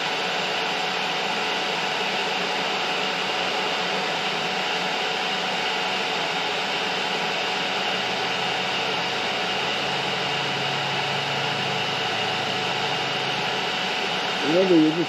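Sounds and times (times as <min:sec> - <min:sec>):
welding hiss with low hum: 0:00.0 - 0:15.0.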